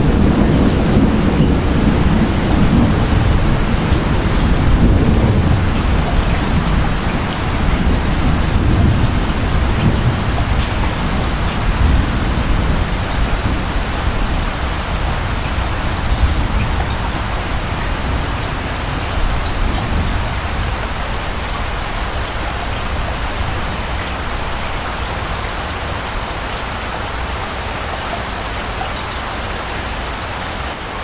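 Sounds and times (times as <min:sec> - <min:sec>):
distant thunder rumble: 0:00.0 - 0:28.1
steady rain: 0:00.0 - 0:31.0.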